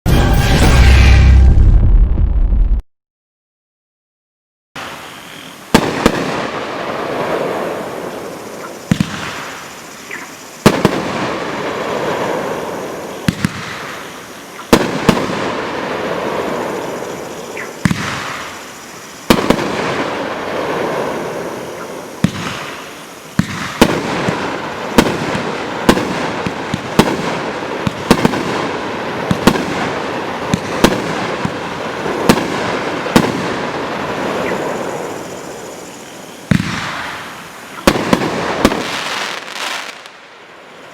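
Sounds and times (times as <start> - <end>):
fireworks bangs: 5.7 - 9.8, 10.6 - 40.3.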